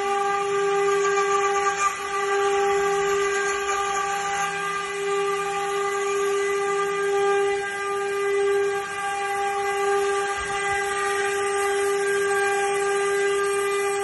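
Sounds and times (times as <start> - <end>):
router spindle high-pitched whine: 0.0 - 14.0.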